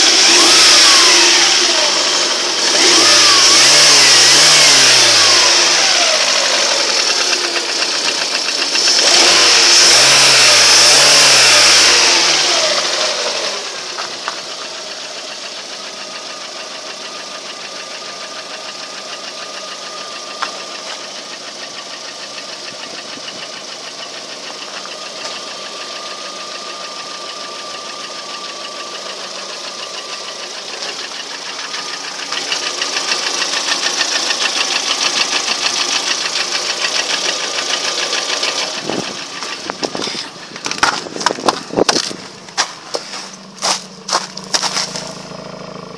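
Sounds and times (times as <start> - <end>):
engine idling with rhythmic knock: 0.0 - 45.9
engine revving: 0.0 - 45.9.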